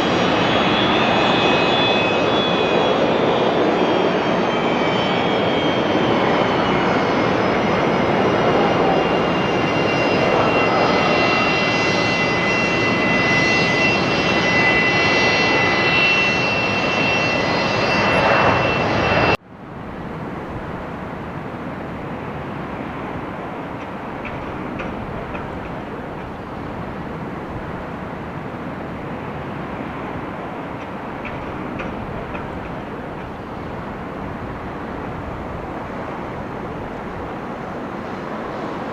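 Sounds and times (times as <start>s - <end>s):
airplane engines whining: 0.0s - 38.9s.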